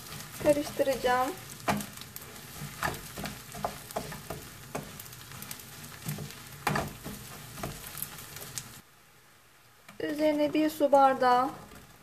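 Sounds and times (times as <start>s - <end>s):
wooden spoon scraping a pan: 0.0s - 8.8s, 9.8s - 12.0s
rice sizzling in a pan: 0.0s - 12.0s.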